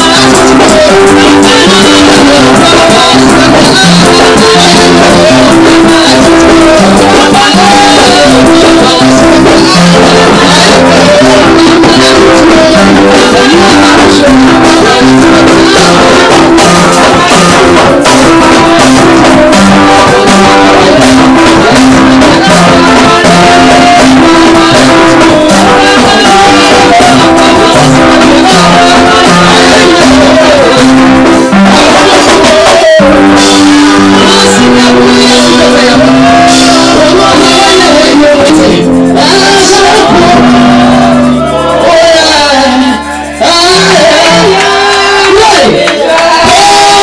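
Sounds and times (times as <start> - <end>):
drum kit steady beat: 0.0 - 47.0
electronic keyboard chords: 0.0 - 47.0.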